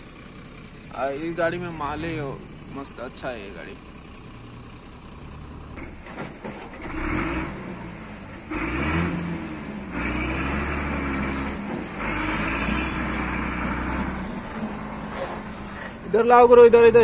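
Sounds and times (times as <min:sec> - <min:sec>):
truck diesel engine revving: 0:00.0 - 0:17.0.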